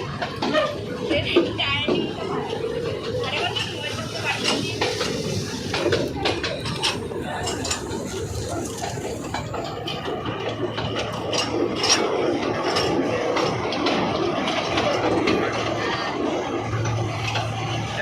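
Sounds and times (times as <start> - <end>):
people chattering: 0.0 - 18.0.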